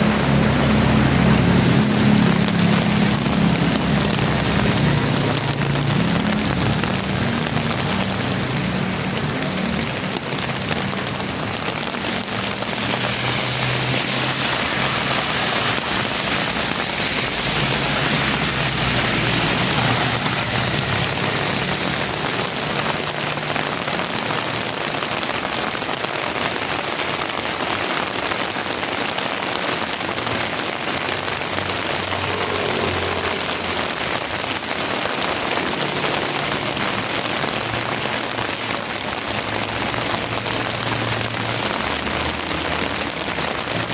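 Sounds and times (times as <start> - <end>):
heavy rain pattering: 0.0 - 43.9.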